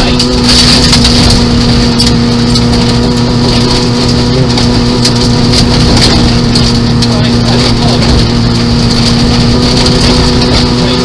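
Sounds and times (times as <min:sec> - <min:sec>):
car engine at steady revs: 0:00.0 - 0:11.0
tyre and gravel noise: 0:00.0 - 0:11.0.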